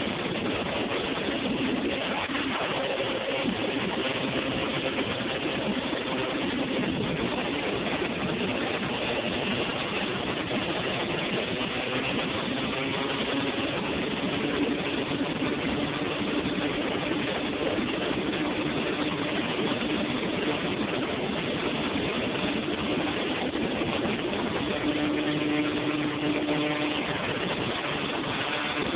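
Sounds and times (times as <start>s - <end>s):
two-stroke engine running: 0.0s - 28.9s
wind and road noise: 0.0s - 28.9s.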